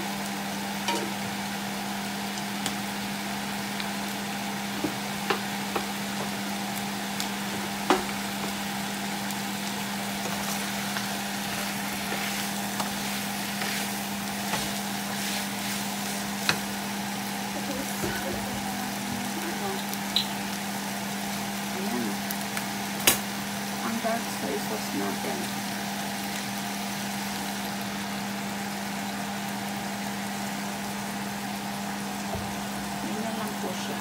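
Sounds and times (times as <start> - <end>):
chicken wings sizzling in pan: 0.0 - 34.0.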